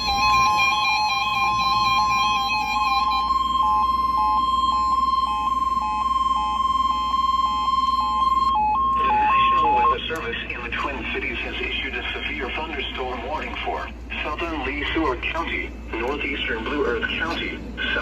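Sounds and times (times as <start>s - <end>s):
loud steady alert tone: 0.0s - 17.2s.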